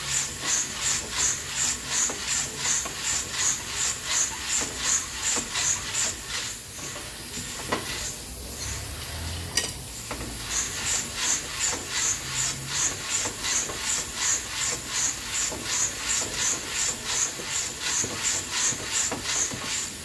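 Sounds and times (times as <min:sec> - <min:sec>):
rhythmic swish of turning drum: 0:00.0 - 0:09.2, 0:09.9 - 0:20.0.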